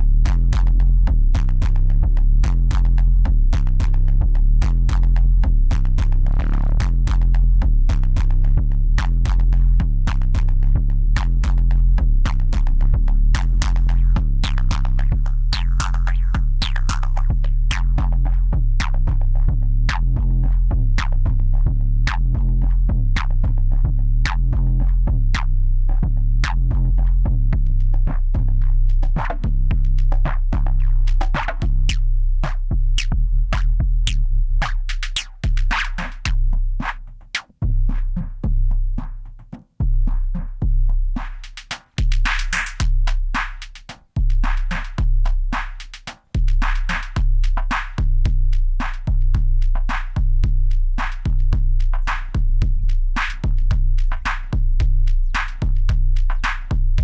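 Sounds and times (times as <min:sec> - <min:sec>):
repeating low bass: 0:00.0 - 0:41.4, 0:42.0 - 0:43.6, 0:44.2 - 0:45.8, 0:46.4 - 0:57.0
looping electronic drum pattern: 0:00.0 - 0:57.0.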